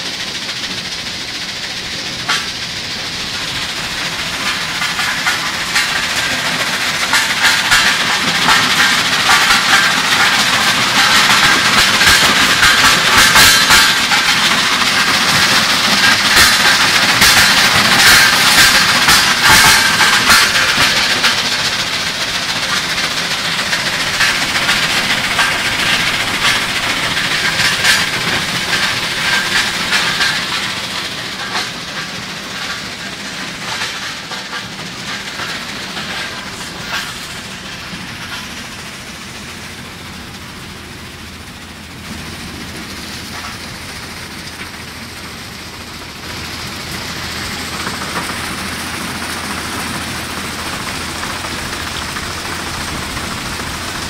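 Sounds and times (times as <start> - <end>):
conveyors and machinery running: 0.0 - 54.0.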